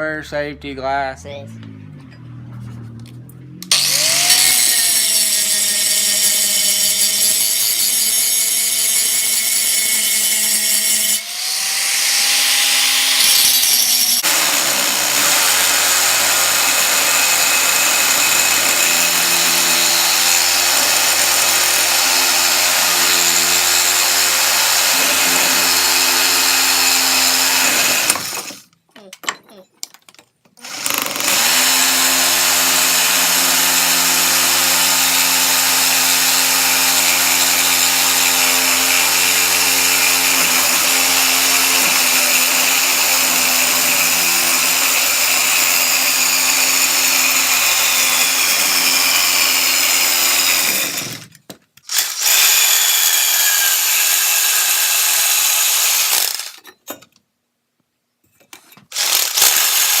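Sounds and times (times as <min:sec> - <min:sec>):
angle grinder cutting steel: 0:03.6 - 0:28.7, 0:30.6 - 0:51.3, 0:51.9 - 0:56.8, 0:58.9 - 1:00.0.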